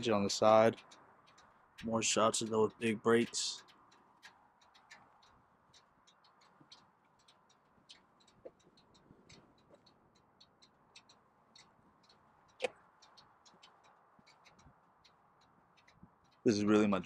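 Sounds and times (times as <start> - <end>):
faint irregular clicking: 0.0 - 17.0.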